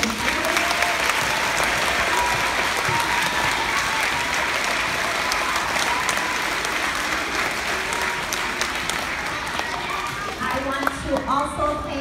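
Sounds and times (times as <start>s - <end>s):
crowd applauding: 0.0s - 11.3s
faint voices: 0.0s - 12.0s.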